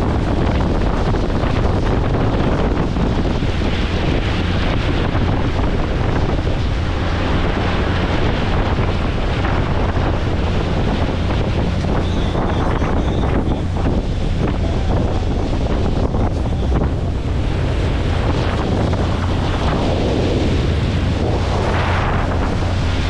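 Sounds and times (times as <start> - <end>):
motorboat running noise: 0.0 - 23.0
water wash: 0.0 - 23.0
wind buffeting microphone: 0.0 - 23.0.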